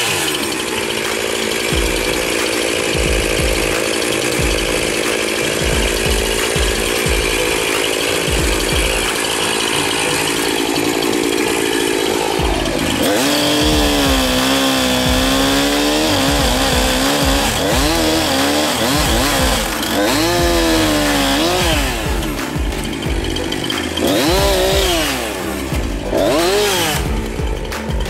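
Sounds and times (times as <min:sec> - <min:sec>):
chainsaw cutting hedge stems: 0:00.0 - 0:28.0.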